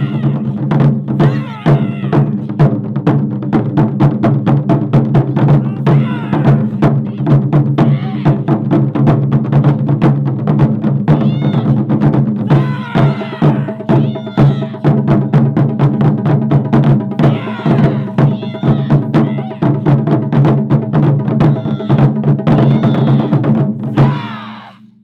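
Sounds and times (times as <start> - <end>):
taiko drum ensemble: 0.0 - 24.9.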